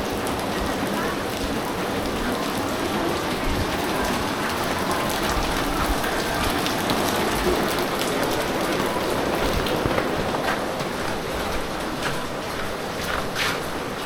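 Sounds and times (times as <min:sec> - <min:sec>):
heavy rain pattering: 0:00.0 - 0:14.0.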